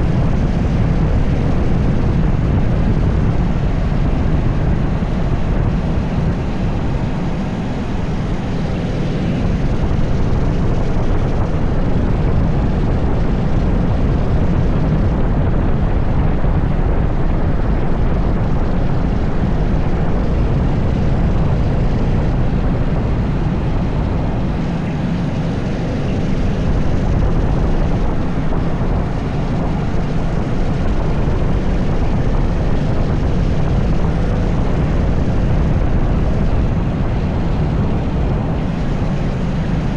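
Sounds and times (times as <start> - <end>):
kart engine running: 0.0 - 39.9
wind rushing past microphone: 0.0 - 39.9.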